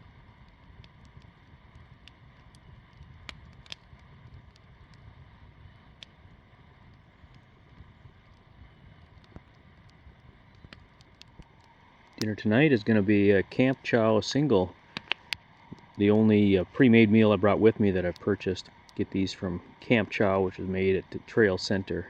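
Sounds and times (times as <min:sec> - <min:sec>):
campfire crackling and popping: 0:00.0 - 0:22.0
wind rumble on microphone: 0:00.0 - 0:22.0.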